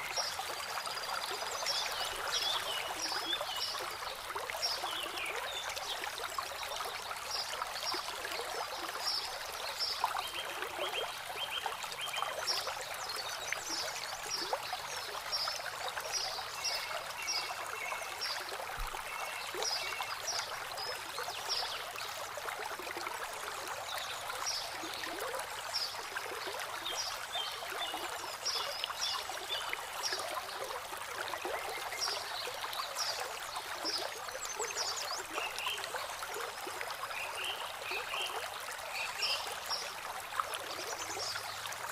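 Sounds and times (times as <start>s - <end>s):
water trickling over rocks: 0.0s - 41.9s.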